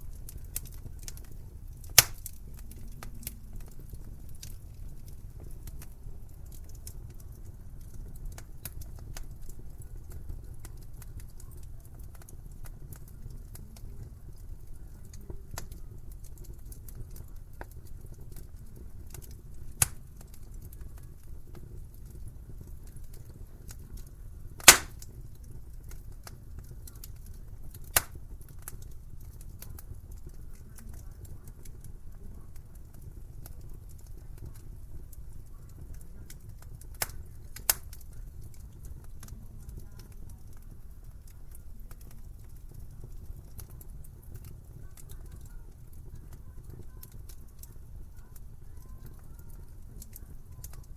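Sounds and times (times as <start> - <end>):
sharp fire pops: 0.0 - 48.2
wood fire crackling: 0.0 - 50.9.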